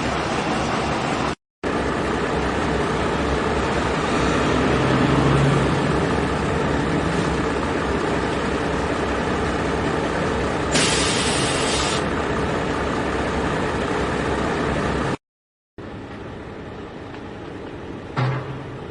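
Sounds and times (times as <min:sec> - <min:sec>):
heavy vehicle engine rumbling: 0:00.0 - 0:15.2, 0:15.8 - 0:18.9.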